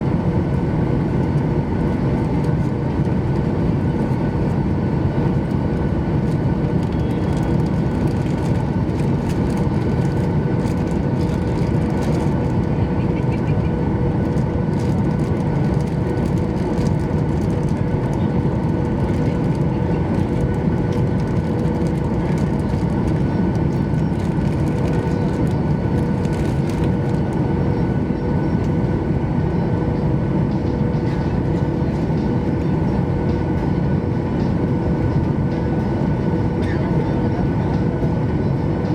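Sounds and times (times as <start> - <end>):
airplane cabin engine noise: 0.0 - 38.9
steady hums: 0.0 - 38.9.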